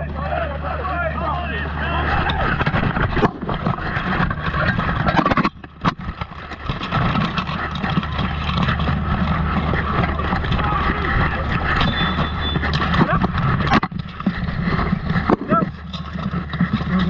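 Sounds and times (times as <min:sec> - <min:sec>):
camera handling rumble: 0:02.0 - 0:17.0.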